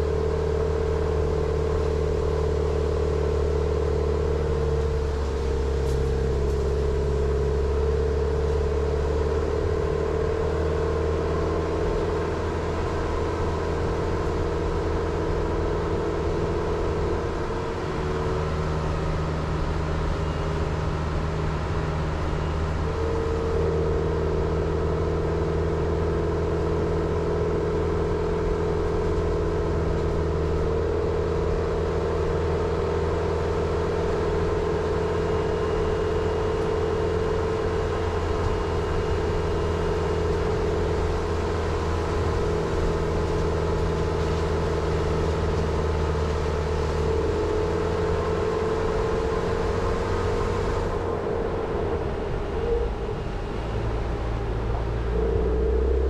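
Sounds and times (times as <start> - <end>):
car engine hum: 0.0 - 56.0
tyre and road noise: 0.0 - 56.0.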